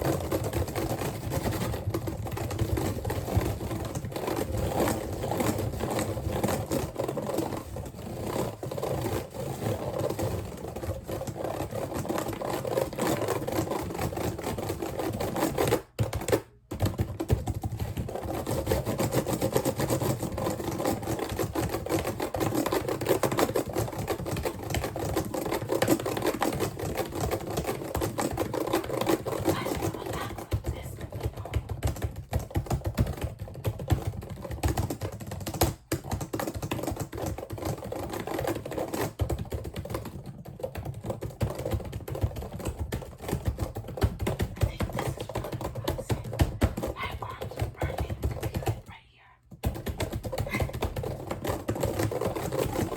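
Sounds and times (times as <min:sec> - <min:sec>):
rapid clicking and tapping: 0:00.0 - 0:52.9.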